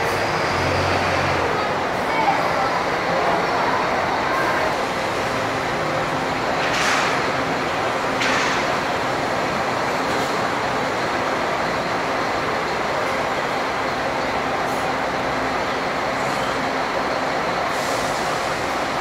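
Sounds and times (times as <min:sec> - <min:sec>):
diesel coach engine humming: 0:00.0 - 0:19.0.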